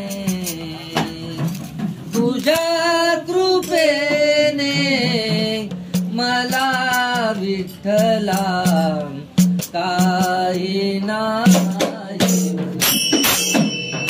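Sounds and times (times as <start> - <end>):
man singing: 0.0 - 13.0
instrumental accompaniment: 0.0 - 14.0.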